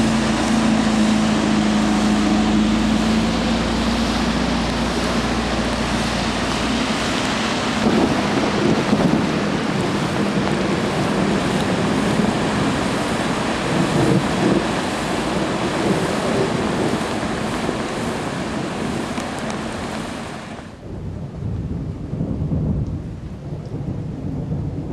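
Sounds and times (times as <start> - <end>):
car spraying through floodwater: 0.0 - 20.9
heavy rain: 0.0 - 24.9
thunder rumble: 0.0 - 24.9.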